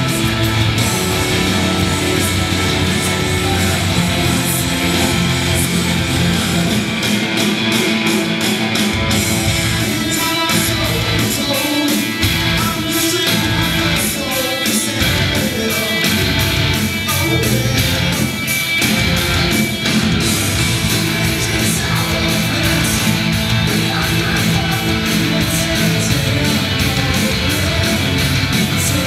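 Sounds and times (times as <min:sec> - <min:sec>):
distorted electric guitars: 0:00.0 - 0:29.0
driving drum beat: 0:00.0 - 0:29.0.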